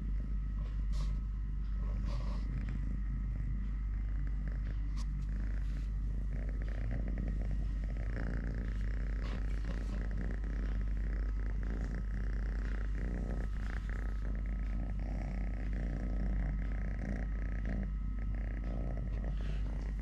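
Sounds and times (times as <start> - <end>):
kitten purring: 0.0 - 20.0.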